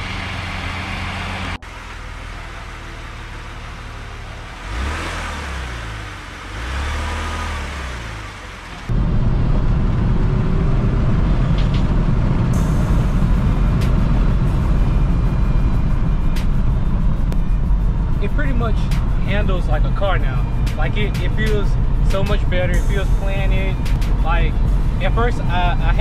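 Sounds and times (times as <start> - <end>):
car engine revving: 0.0 - 26.0
engine and tyre rumble in cabin: 0.0 - 26.0.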